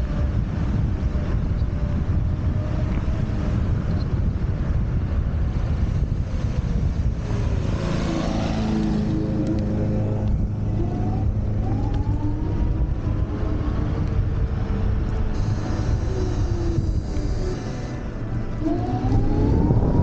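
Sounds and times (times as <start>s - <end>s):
multi-tone gliding hum: 0.0s - 20.0s
wind on microphone: 0.0s - 20.0s.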